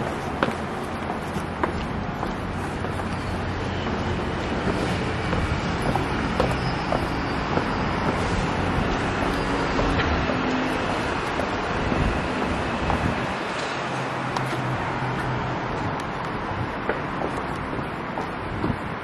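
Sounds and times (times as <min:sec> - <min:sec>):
city traffic hum: 0:00.0 - 0:19.0
footsteps on stone steps: 0:00.0 - 0:19.0.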